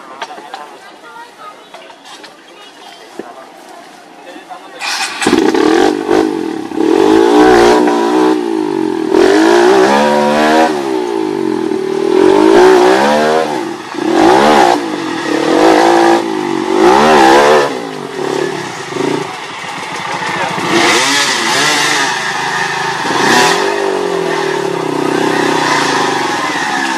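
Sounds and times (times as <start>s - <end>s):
dirt bike engine revving: 4.8s - 26.9s.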